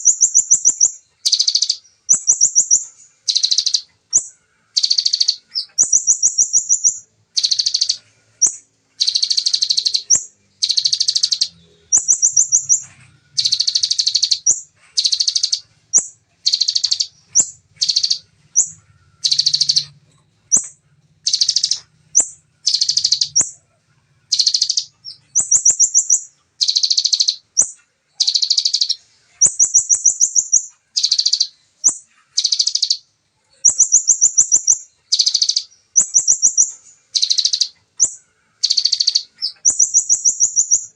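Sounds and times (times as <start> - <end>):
songbird singing fast trills: 0.0 - 23.6, 24.2 - 40.9.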